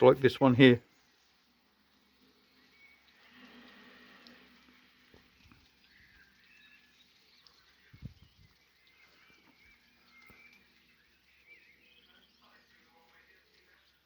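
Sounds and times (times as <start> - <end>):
faint birdsong chirps: 0.0 - 14.0.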